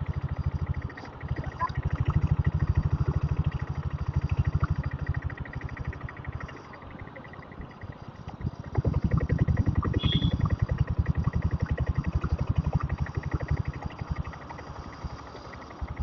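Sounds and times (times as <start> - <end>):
motorcycle diesel exhaust beats: 0.0 - 16.0.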